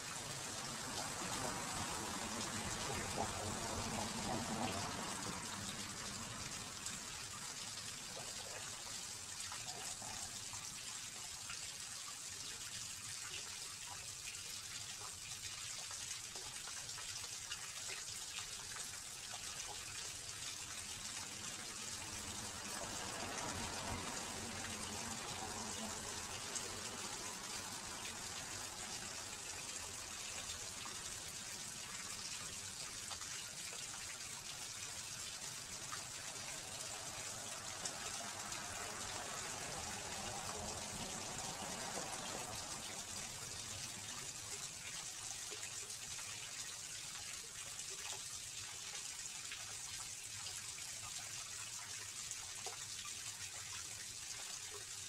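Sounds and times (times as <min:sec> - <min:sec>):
small waterfall splashing into pond: 0:00.0 - 0:55.0.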